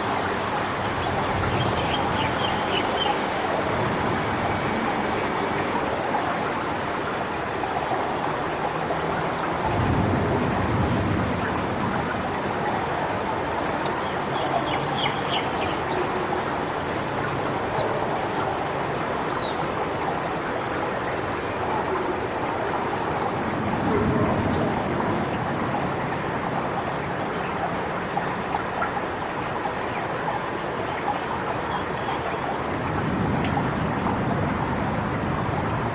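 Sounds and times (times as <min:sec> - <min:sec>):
wind and rain through palm fronds: 0:00.0 - 0:35.9.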